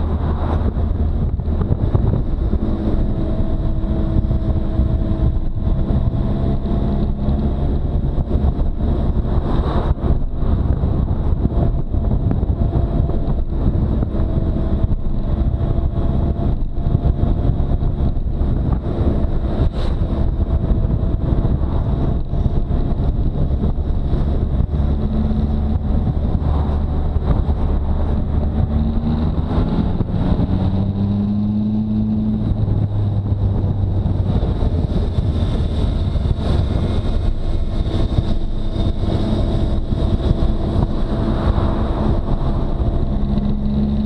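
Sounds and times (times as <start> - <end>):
motorcycle engine running: 0.0 - 44.0
wind noise on microphone: 0.0 - 44.0.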